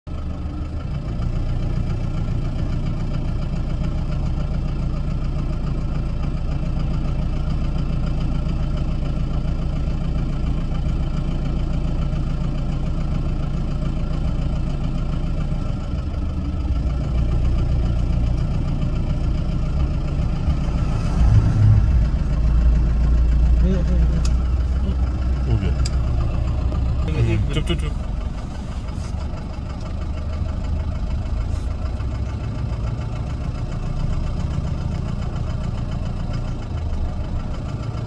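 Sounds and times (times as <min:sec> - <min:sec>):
vehicle engine idling: 0:00.1 - 0:38.0.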